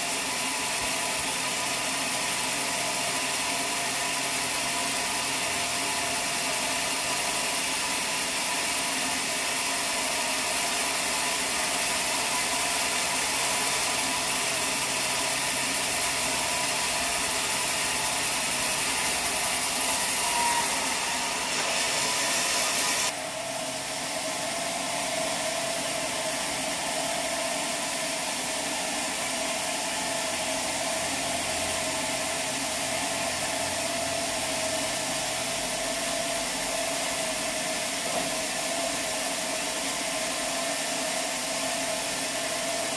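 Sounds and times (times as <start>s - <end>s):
sawmill machinery hum: 0.0s - 42.9s.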